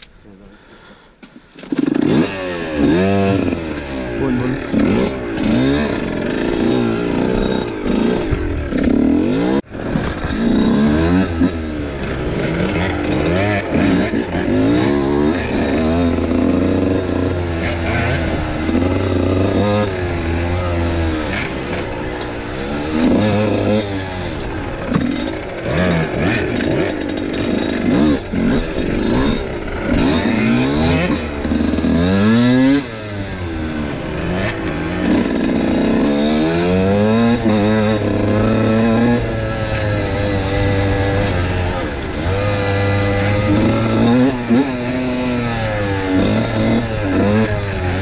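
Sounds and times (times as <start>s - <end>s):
two-stroke motorcycle engine revving: 1.6s - 48.0s.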